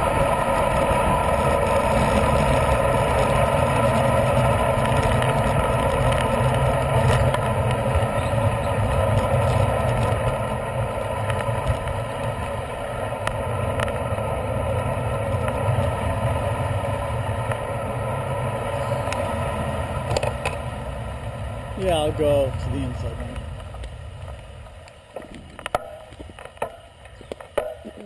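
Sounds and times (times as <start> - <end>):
wind rushing over microphone: 0.0 - 27.3
tyre rumble on road: 0.0 - 28.0.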